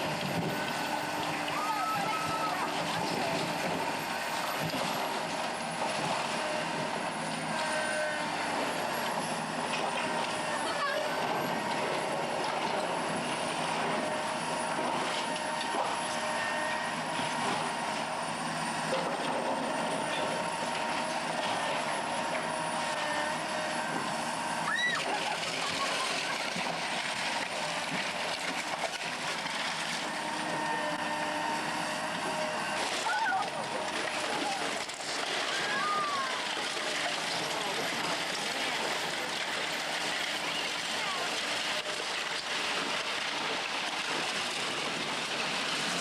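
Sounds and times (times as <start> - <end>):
engine drone: 0.0 - 46.0.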